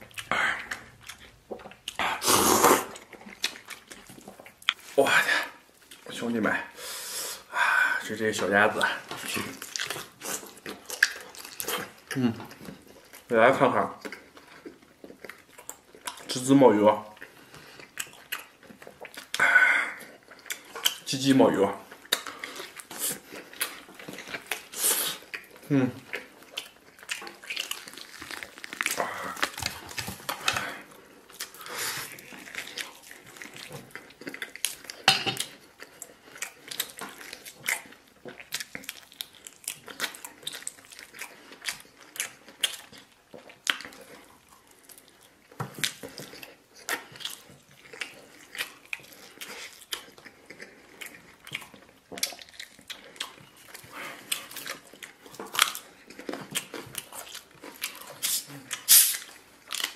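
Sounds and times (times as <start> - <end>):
person chewing: 0.0 - 21.2, 21.8 - 59.9.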